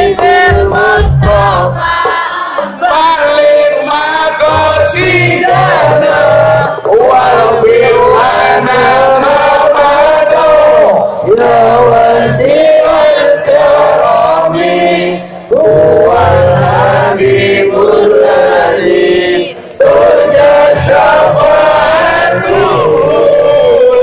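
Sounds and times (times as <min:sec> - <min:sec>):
backing music: 0:00.0 - 0:24.0
choir singing devotional song over pa: 0:00.0 - 0:24.0.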